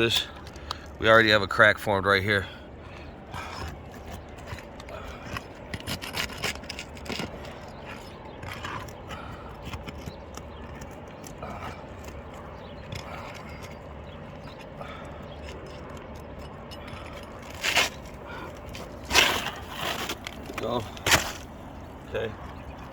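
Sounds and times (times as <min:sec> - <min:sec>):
tool scraping roof shingles: 0:02.4 - 0:22.9.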